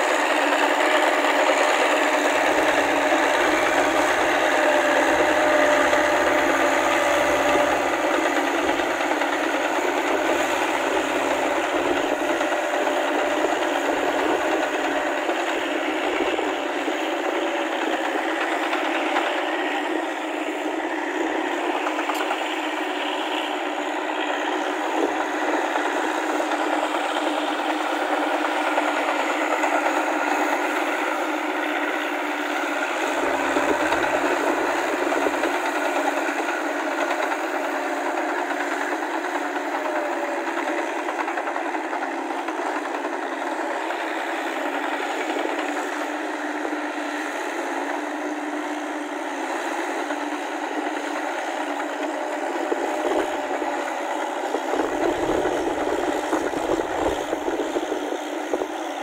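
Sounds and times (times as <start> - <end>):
crawler tracks rattling: 0.0 - 47.2, 50.2 - 59.0
tractor diesel engine: 0.0 - 59.0.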